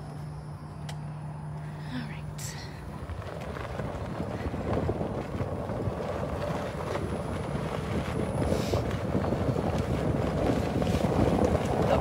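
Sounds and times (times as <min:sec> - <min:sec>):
cart rumbling on grassy track: 0:00.0 - 0:12.0
wind buffeting microphone: 0:02.4 - 0:12.0.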